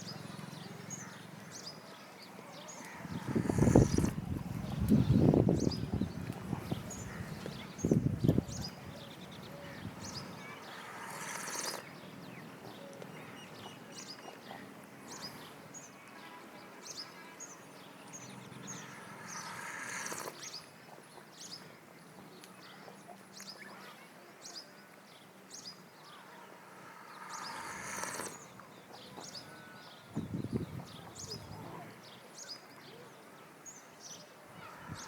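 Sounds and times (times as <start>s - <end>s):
outdoor background noise: 0.0s - 35.0s
small birds chirping: 0.0s - 35.0s.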